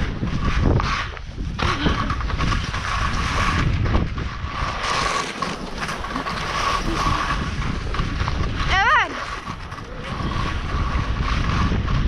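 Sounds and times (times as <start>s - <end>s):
skis scraping through snow: 0.0s - 12.0s
wind buffeting microphone: 0.0s - 12.0s.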